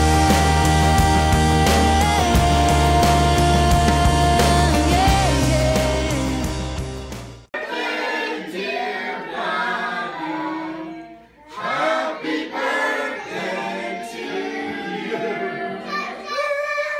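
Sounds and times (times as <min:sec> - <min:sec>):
group singing without instruments: 0:00.0 - 0:06.8, 0:07.5 - 0:16.9.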